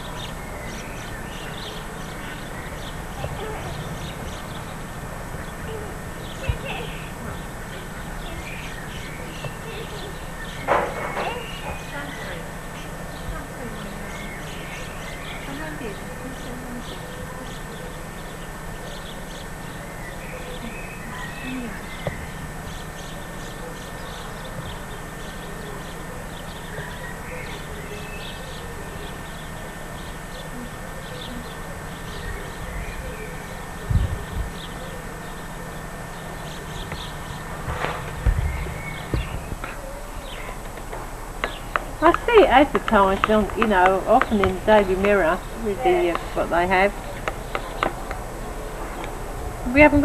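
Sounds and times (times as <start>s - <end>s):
faint birds chirping: 0.0s - 50.0s
steady background hiss: 0.0s - 50.0s.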